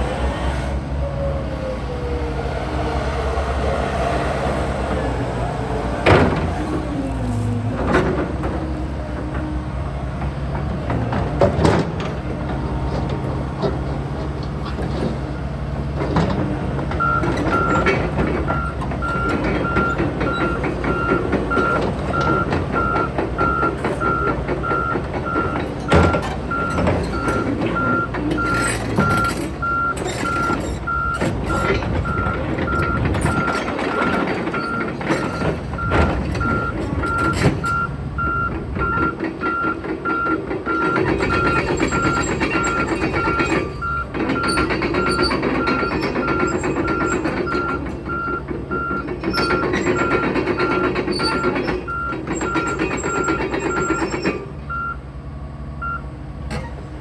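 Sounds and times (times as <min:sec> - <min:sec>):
excavator diesel engine running: 0:00.0 - 0:57.0
knocks and clanks: 0:05.9 - 0:54.9, 0:56.4 - 0:57.0.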